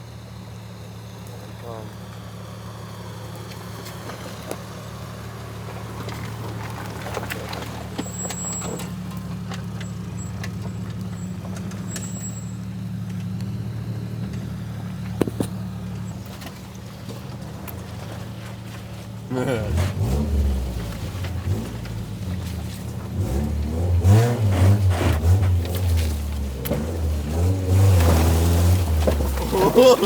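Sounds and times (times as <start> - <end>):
car engine at low revs: 0.0 - 30.0
car knocking and rattling: 0.2 - 30.0.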